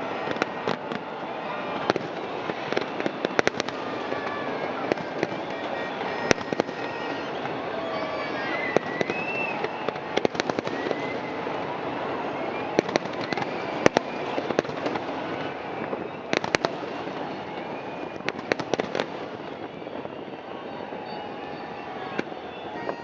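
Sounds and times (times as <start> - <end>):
fireworks bangs and crackles: 0.0 - 23.0
fireworks whistles: 0.0 - 23.0.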